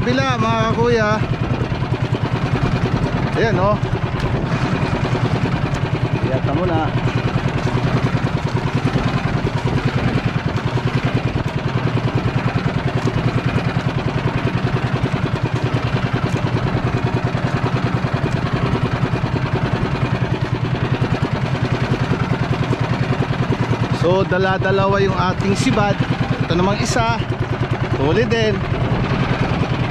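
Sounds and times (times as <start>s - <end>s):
small engine idling: 0.0s - 29.9s.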